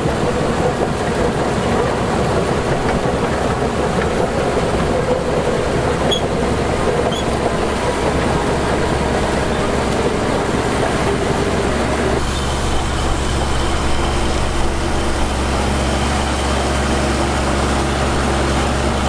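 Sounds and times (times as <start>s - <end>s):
heavy diesel machinery drone: 0.0s - 19.0s.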